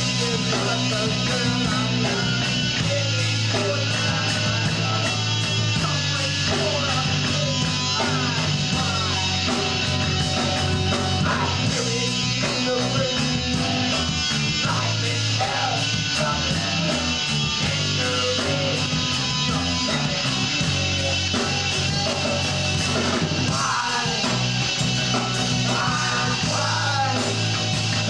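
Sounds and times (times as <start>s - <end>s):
drums: 0.0s - 28.0s
electric guitars: 0.0s - 28.0s
person singing: 0.0s - 28.0s.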